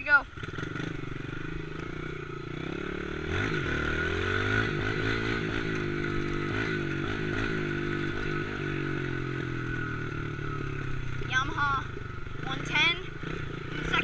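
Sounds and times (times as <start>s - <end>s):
dirt bike engine accelerating: 0.0s - 14.0s.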